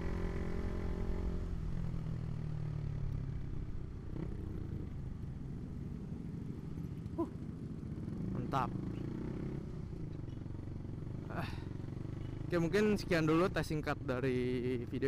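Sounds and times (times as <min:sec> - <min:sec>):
motorcycle engine running: 0:00.0 - 0:15.0
road and wind rumble: 0:00.0 - 0:15.0.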